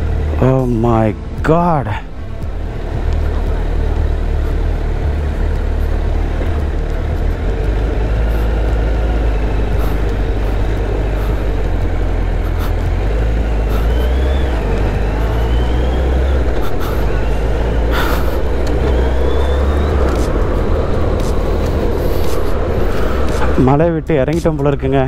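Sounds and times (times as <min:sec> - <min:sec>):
motorcycle engine running: 0:00.0 - 0:25.0
wind rumble on microphone: 0:02.1 - 0:25.0.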